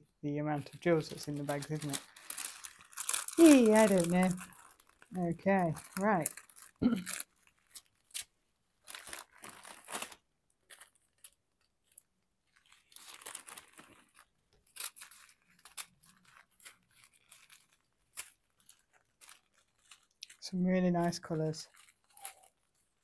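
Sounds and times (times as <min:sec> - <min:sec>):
plastic bags crinkling: 0:00.6 - 0:23.0.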